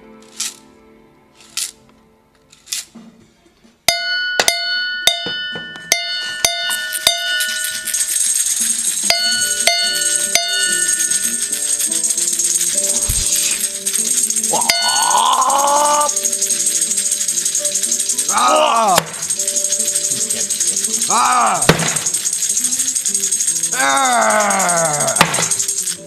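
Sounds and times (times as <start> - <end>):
struck ringing notes: 3.9 - 26.0
high shimmer: 4.0 - 26.0.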